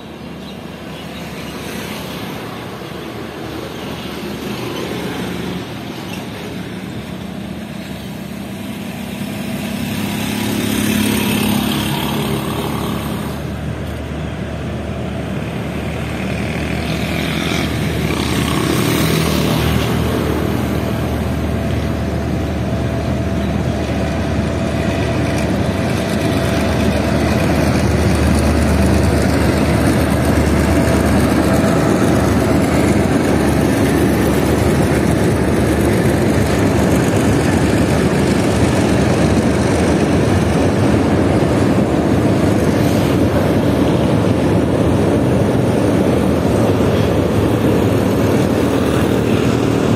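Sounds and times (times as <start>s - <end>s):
diesel locomotive engine: 0.0s - 49.9s
train coaches rumbling on bridge: 0.0s - 49.9s.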